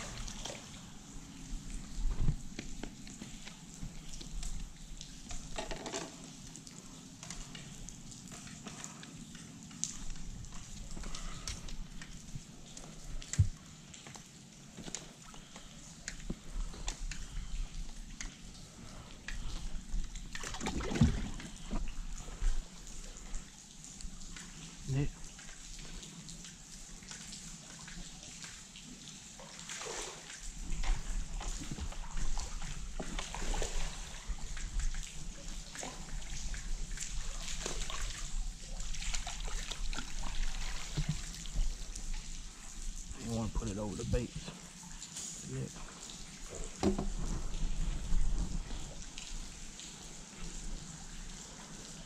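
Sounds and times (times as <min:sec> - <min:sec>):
light rain ticks: 0:00.0 - 0:20.5, 0:21.3 - 0:52.0
water splashing and trickling: 0:00.0 - 0:52.0.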